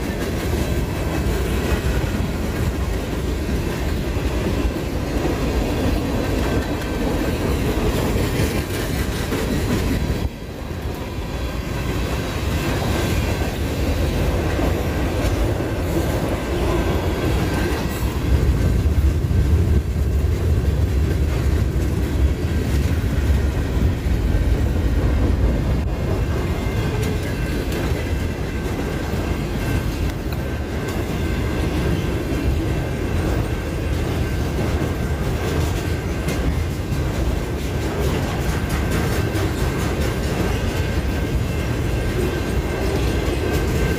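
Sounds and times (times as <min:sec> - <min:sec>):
freight train wheels rumbling on rails: 0:00.0 - 0:43.9.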